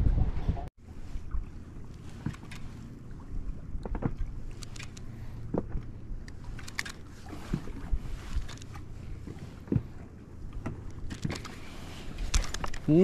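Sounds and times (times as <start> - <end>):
low rumble of water and wind: 0.0 - 13.0.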